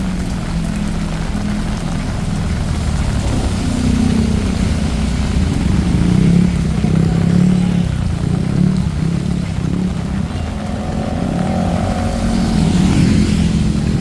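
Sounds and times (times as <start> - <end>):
rain hissing: 0.0 - 14.0
vehicle engines humming: 0.0 - 14.0.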